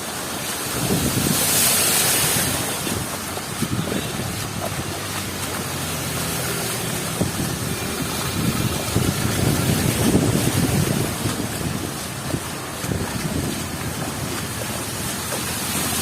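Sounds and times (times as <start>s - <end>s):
heavy rain: 0.0s - 16.0s
low rumble of street traffic: 0.0s - 16.0s
wind buffeting microphone: 0.6s - 16.0s.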